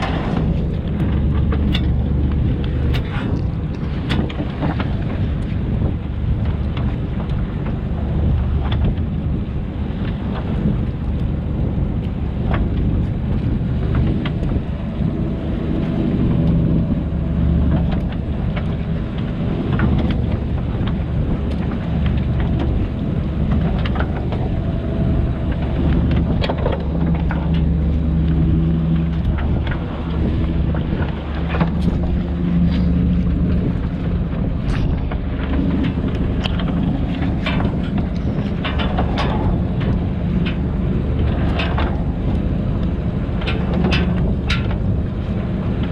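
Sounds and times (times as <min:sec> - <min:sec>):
boat engine running: 0:00.0 - 0:45.9
wind buffeting microphone: 0:00.0 - 0:45.9.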